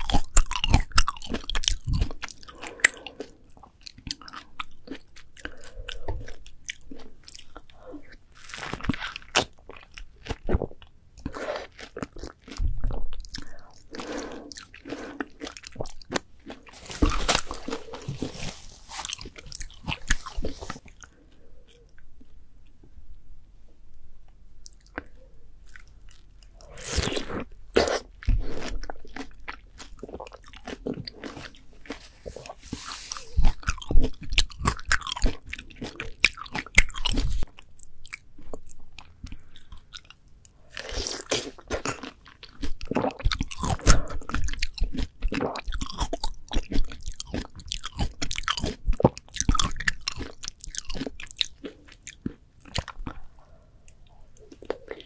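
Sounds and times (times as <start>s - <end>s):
biting and chewing juicy melon: 0.0s - 22.4s, 24.7s - 55.0s.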